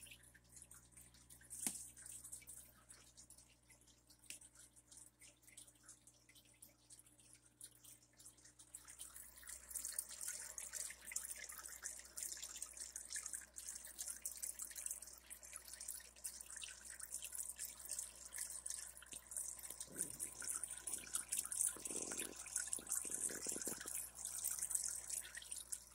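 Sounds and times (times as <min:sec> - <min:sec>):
aquarium water trickling and bubbling: 0:00.0 - 0:25.9
drip-like ticks: 0:00.0 - 0:25.9.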